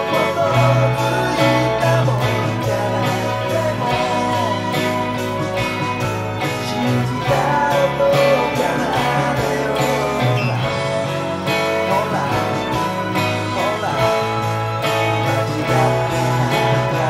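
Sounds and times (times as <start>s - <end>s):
electric guitar strumming: 0.0s - 17.0s
pop-rock song with vocals: 0.0s - 17.0s.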